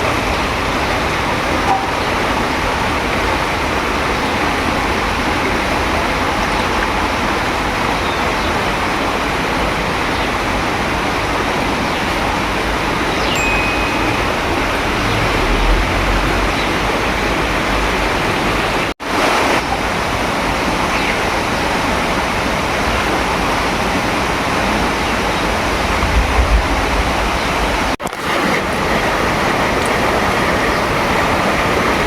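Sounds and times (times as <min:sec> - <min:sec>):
heavy rain hiss: 0:00.0 - 0:32.0.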